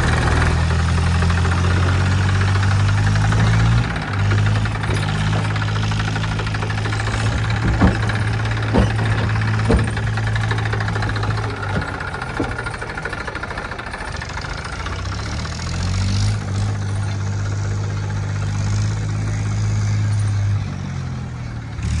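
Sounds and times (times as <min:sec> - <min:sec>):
heavy diesel machinery engine: 0:00.0 - 0:22.0.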